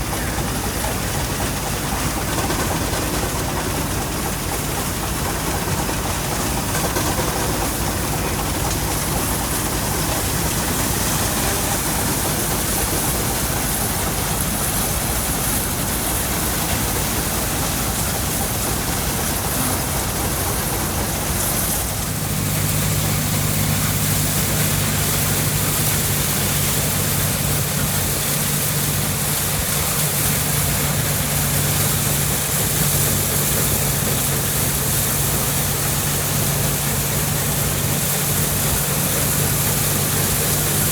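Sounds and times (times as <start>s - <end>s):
low engine hum: 0.0s - 40.9s
threshing machinery running: 0.0s - 40.9s.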